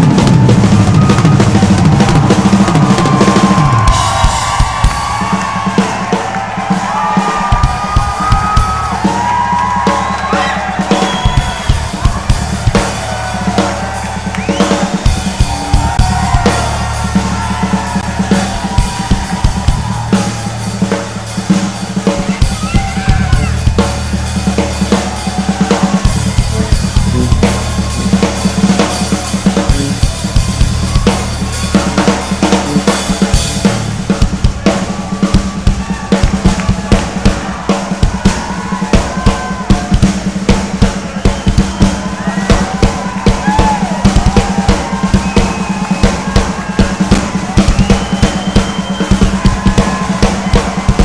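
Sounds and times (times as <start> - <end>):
drum kit solo: 0.0 - 51.0.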